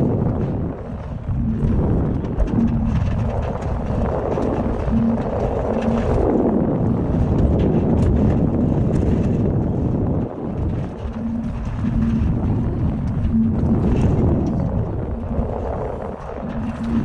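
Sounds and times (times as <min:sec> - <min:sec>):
low rumbling noise: 0:00.0 - 0:17.0
wind on microphone: 0:00.0 - 0:17.0.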